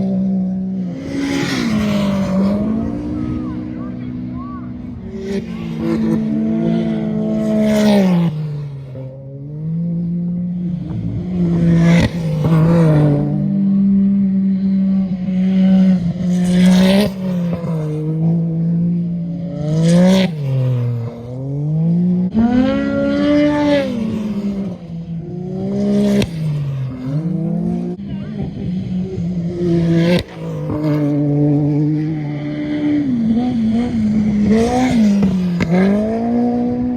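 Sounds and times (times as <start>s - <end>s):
off-road race engines revving: 0.0s - 36.9s
vehicles passing close: 0.0s - 36.9s.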